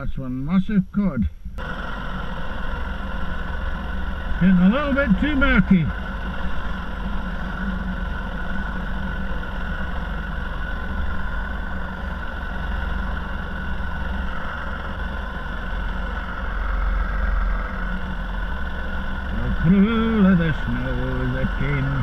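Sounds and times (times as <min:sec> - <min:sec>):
water and wind rumble: 0:01.3 - 0:22.0
small motor running: 0:01.6 - 0:22.0.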